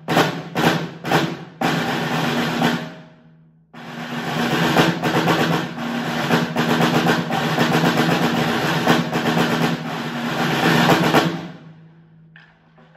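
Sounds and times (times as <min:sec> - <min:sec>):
accented snare strokes: 0:00.0 - 0:03.1, 0:03.8 - 0:11.7
snare drum roll: 0:00.0 - 0:03.1, 0:03.8 - 0:11.8.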